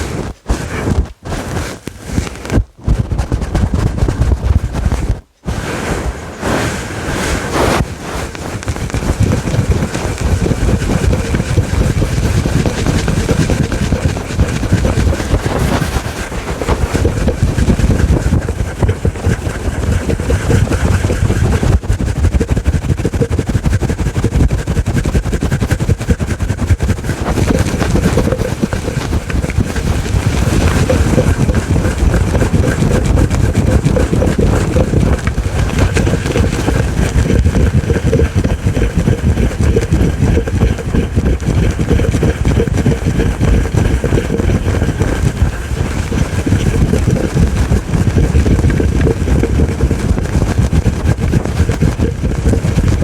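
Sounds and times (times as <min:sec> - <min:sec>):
scratching on furry microphone cover: 0:00.0 - 0:53.0.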